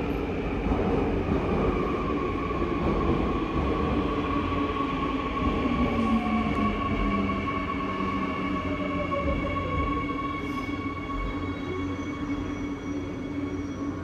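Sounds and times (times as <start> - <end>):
electric train whine and rumble: 0.0 - 14.0.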